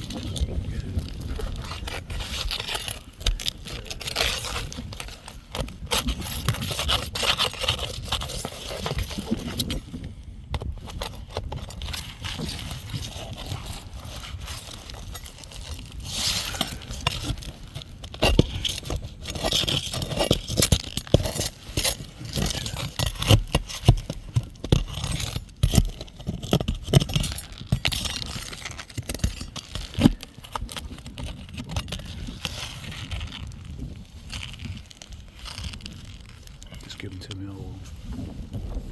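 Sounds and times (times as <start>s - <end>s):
metal tool scraping roof shingles: 0.0s - 9.8s, 10.6s - 33.5s.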